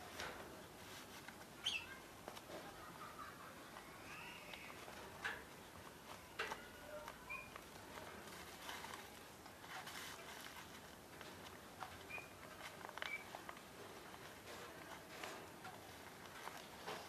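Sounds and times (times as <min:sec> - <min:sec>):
paper and plastic rustling: 0:00.0 - 0:17.0.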